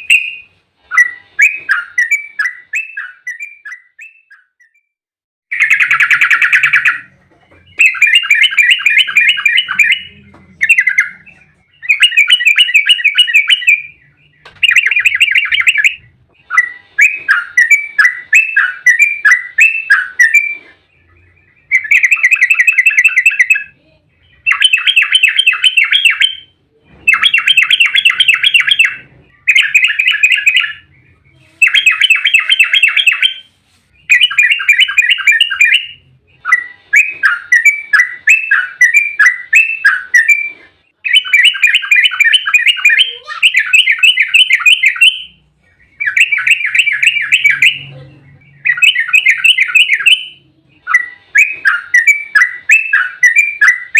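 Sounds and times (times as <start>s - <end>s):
bulbul singing rapid chattering notes: 5.5s - 53.9s.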